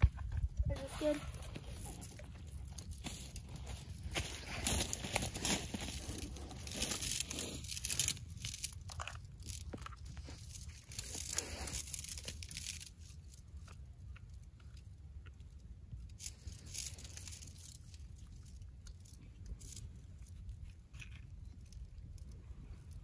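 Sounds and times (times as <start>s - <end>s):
rustling and crackling handling: 0.0s - 23.0s
steady low rumble: 0.0s - 23.0s.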